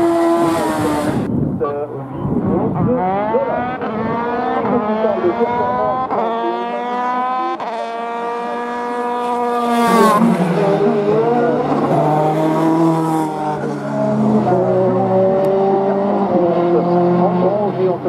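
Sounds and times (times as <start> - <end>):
race car engine accelerating: 0.0 - 1.3, 1.9 - 18.0.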